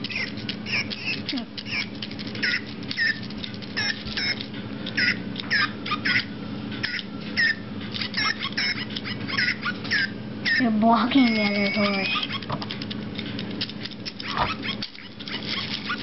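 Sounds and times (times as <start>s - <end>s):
electronic toy squeaks: 0.0s - 12.8s, 13.6s - 16.0s
steady low hum: 0.0s - 16.0s.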